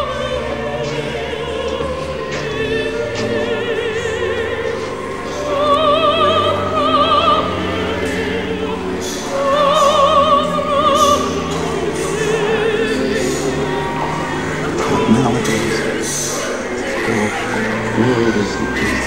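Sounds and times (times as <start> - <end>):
low accompaniment: 0.0 - 19.0
opera singing with vibrato: 0.0 - 19.0.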